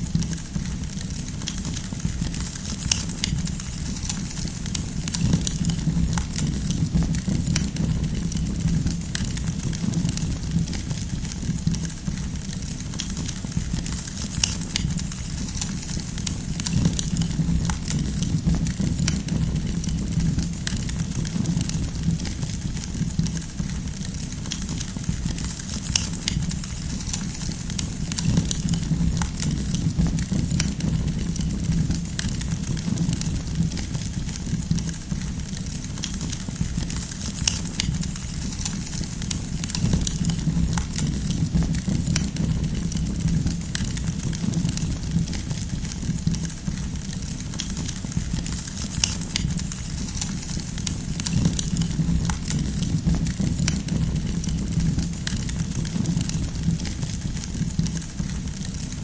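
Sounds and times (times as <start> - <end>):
campfire crackling and popping: 0.0 - 59.0
fire low rumble: 0.0 - 59.0.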